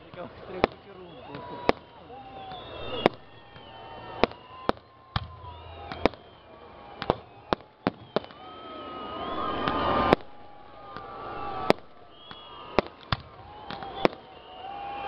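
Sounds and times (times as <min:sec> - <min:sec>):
fireworks bangs: 0:00.0 - 0:15.0
fireworks whistling: 0:00.0 - 0:15.0.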